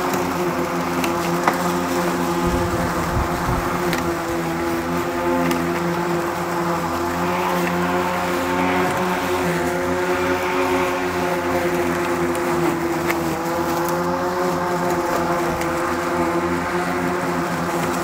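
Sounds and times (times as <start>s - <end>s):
electric lawn mower running: 0.0s - 18.0s.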